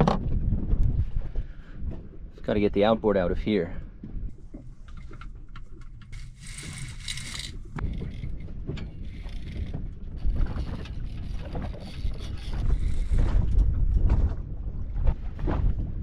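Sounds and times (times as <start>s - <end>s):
outboard motor knocks and clunks: 0.0s - 2.1s, 4.0s - 16.0s
wind rumble on microphone: 0.0s - 16.0s.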